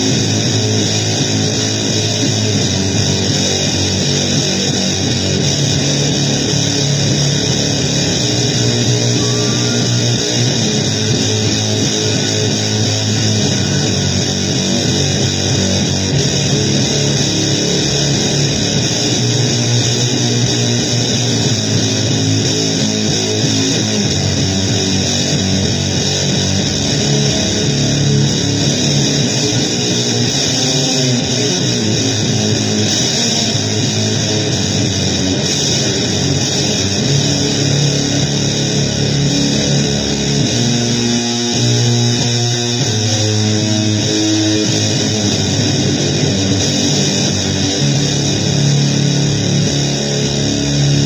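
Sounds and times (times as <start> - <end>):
distorted guitar noise music: 0.0 - 51.0.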